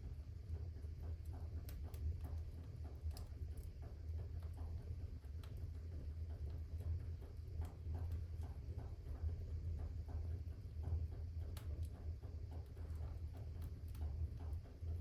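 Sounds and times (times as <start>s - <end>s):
fire crackling: 0.8s - 9.5s, 10.4s - 15.0s.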